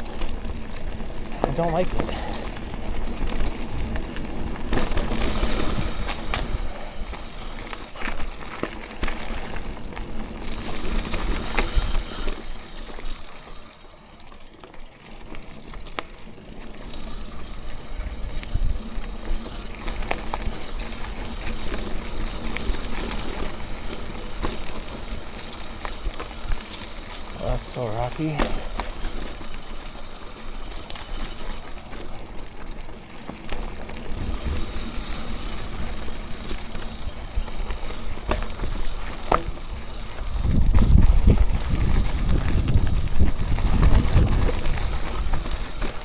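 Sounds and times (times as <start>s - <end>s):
bike clicking and rattling: 0.0s - 46.0s
bike tyres crunching over rock: 0.0s - 46.0s.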